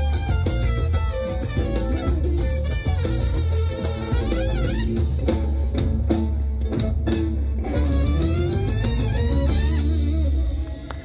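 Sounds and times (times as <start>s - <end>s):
live band playing latin dance music: 0.0s - 11.0s.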